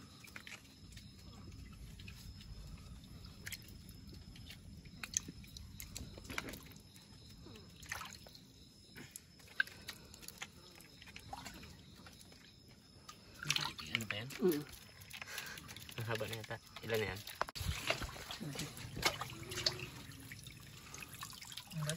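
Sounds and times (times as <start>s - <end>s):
river water sloshing: 0.0s - 8.4s, 9.3s - 21.9s
small splashes and knocks: 0.0s - 21.9s.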